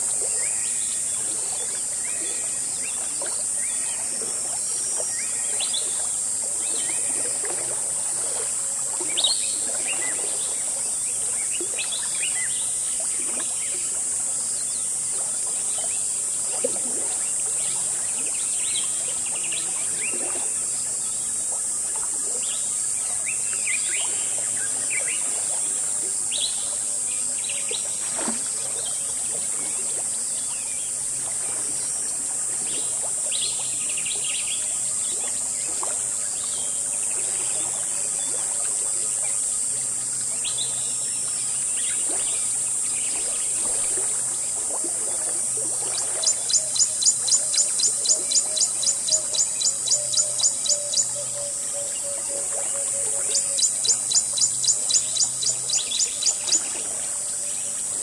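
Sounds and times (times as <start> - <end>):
insect drone: 0.0 - 58.0.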